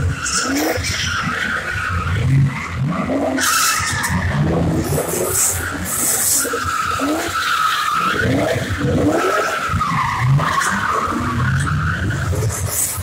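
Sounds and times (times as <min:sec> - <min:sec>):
engines revving: 0:00.0 - 0:13.0.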